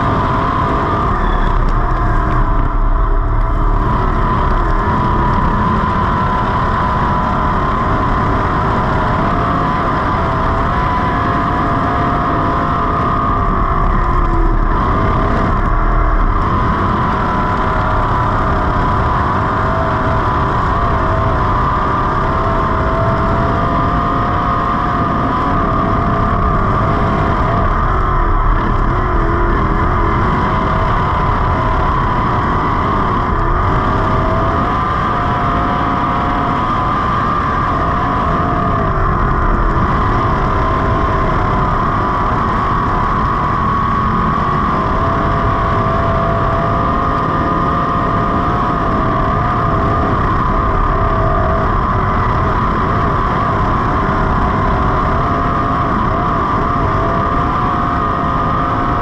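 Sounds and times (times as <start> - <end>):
race car engine running: 0.0 - 59.0.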